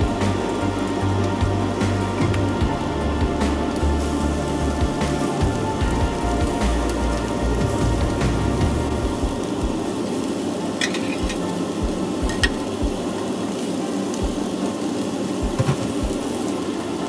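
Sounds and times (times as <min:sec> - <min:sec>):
fish sizzling in frying pan: 0:00.0 - 0:17.0.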